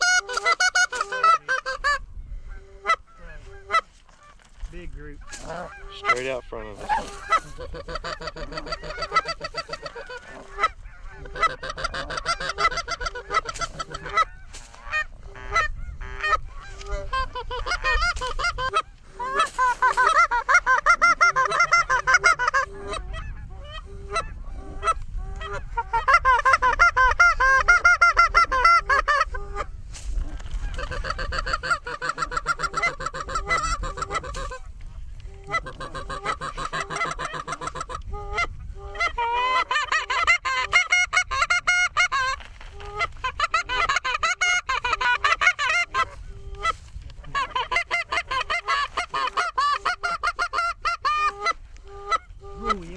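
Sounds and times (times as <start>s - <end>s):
geese honking and clucking: 0.0s - 52.9s.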